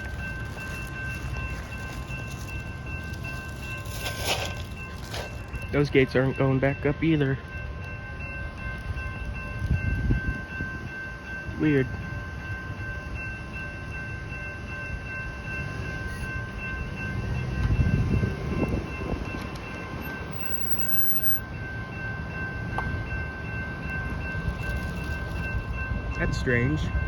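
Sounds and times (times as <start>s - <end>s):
crossing warning bell ringing: 0.0s - 27.0s.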